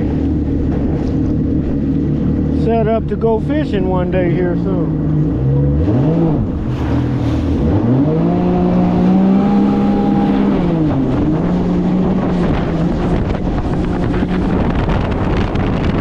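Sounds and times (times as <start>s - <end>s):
jet boat engine revving: 0.0s - 16.0s.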